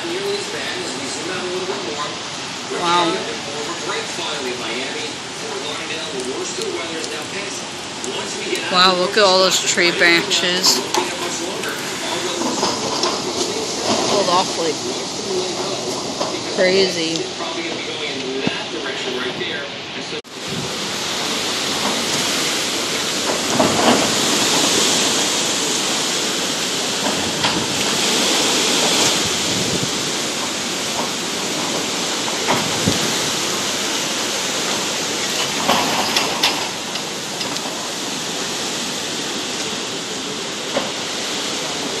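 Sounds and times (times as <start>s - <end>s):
hurricane wind and heavy rain: 0.0s - 42.0s.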